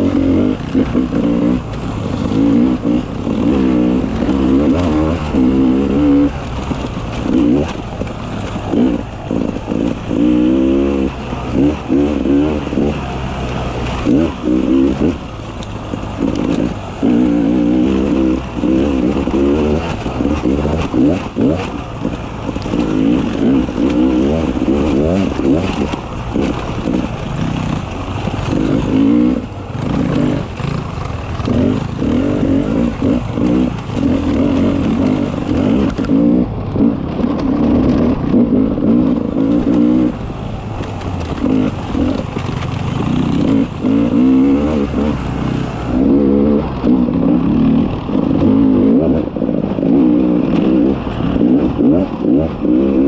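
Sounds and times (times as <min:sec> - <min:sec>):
engine clatter: 0:00.0 - 0:53.0
motorcycle engine revving: 0:00.0 - 0:53.0.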